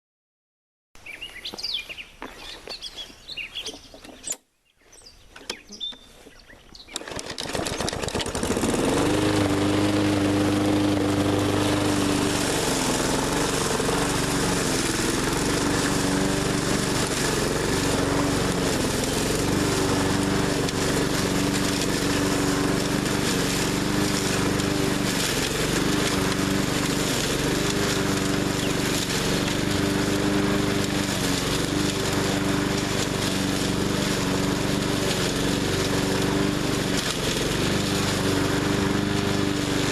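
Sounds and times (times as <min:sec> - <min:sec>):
lawn mower engine running: 0:05.3 - 0:39.9.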